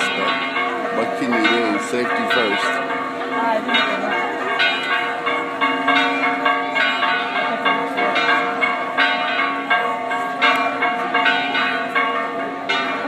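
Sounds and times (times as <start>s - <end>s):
church bells pealing: 0.0s - 13.0s.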